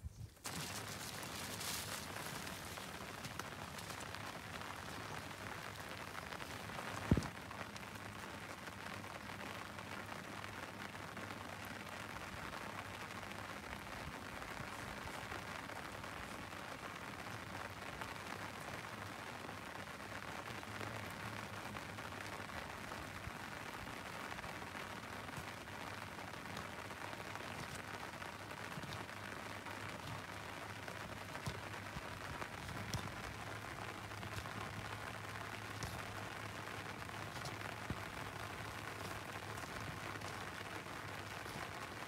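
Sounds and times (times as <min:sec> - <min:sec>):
light drizzle hiss: 0:00.0 - 0:42.0
small rain ticks: 0:00.2 - 0:42.0.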